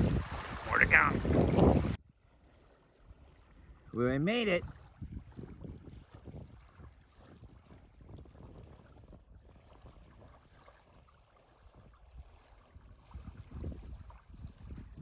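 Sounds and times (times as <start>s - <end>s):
water lapping: 0.0s - 15.0s
wind rumble on microphone: 0.0s - 15.0s.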